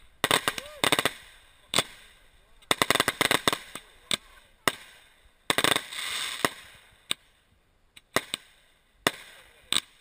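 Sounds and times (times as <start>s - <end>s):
firework shells bursting: 0.0s - 7.4s, 8.0s - 10.0s
fireworks cracking and crackling: 0.0s - 10.0s.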